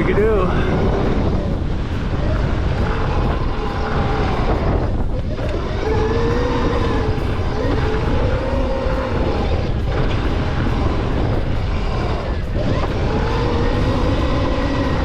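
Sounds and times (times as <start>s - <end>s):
electric motor whine: 0.0s - 15.0s
wind rushing over microphone: 0.0s - 15.0s.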